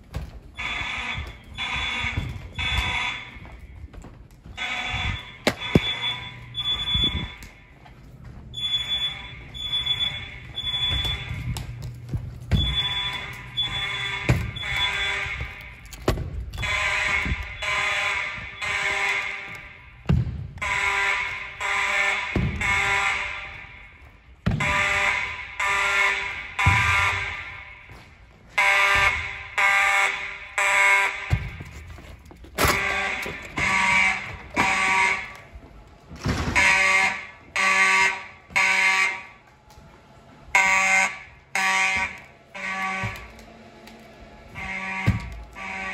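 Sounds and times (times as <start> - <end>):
fire alarm horn blasts: 0.5 - 7.8, 8.5 - 45.9.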